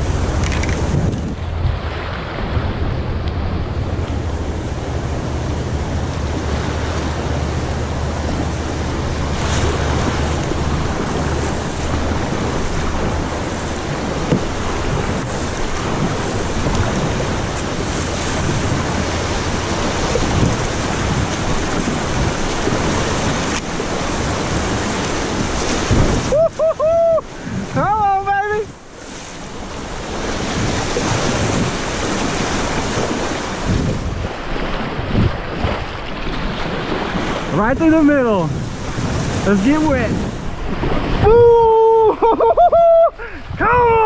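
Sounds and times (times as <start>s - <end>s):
rushing river water: 0.0s - 44.0s
wind buffeting microphone: 0.0s - 44.0s.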